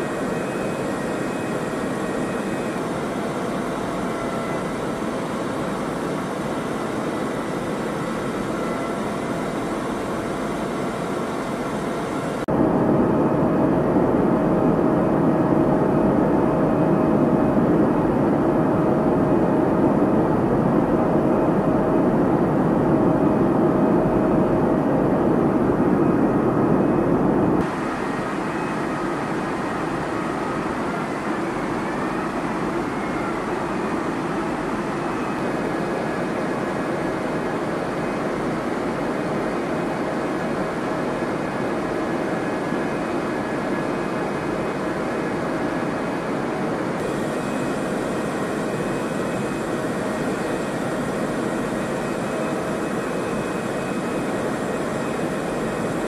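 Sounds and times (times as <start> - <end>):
aircraft engine drone with whine: 0.0 - 56.0.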